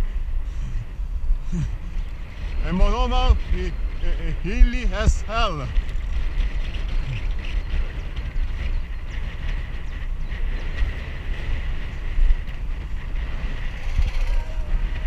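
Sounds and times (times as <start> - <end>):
bicycle road and riding noise: 0.0 - 15.0
wind buffeting microphone: 0.0 - 15.0.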